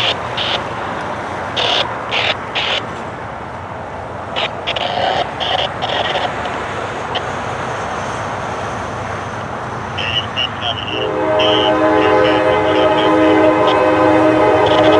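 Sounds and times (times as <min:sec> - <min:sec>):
road traffic rumble: 0:00.0 - 0:14.9
truck driving past: 0:00.0 - 0:14.9.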